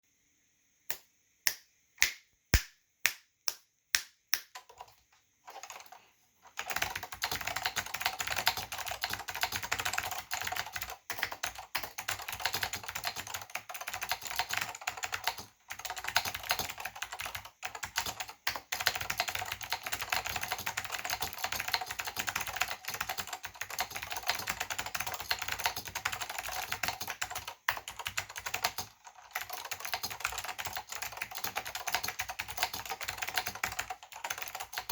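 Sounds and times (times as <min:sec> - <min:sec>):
fast typing on keyboard: 0:04.5 - 0:34.9.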